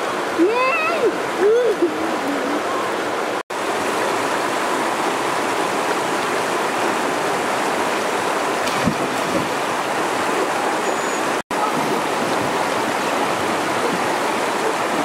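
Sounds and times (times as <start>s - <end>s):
flowing stream rushing: 0.0s - 15.0s.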